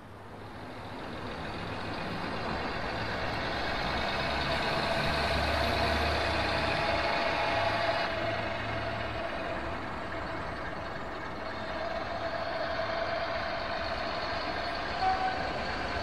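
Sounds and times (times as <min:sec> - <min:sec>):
diesel train engine throbbing: 0:00.0 - 0:16.0.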